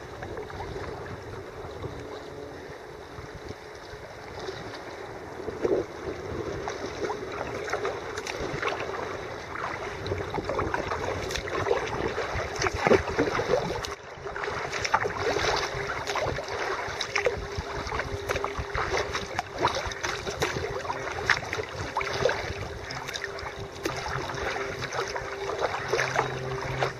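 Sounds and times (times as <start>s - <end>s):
paddle strokes splashing: 0.0s - 26.9s
water rushing around kayak: 0.0s - 26.9s.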